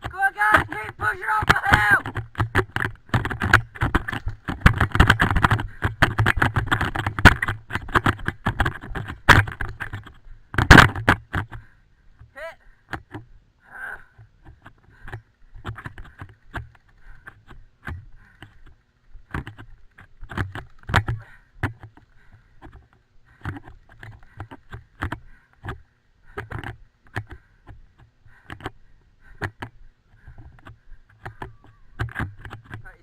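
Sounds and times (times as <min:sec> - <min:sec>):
carried gear rattling: 0:00.0 - 0:13.4, 0:14.1 - 0:33.0
footsteps with dull thuds: 0:00.0 - 0:13.4, 0:14.1 - 0:33.0.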